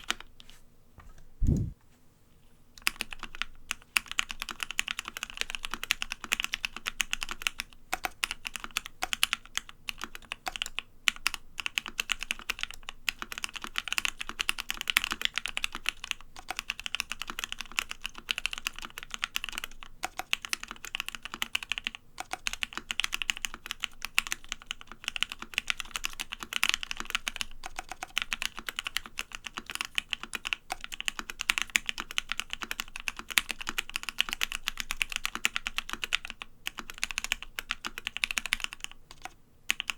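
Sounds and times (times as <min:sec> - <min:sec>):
fast typing on mechanical keyboard: 0:00.0 - 0:00.4, 0:02.8 - 0:39.9.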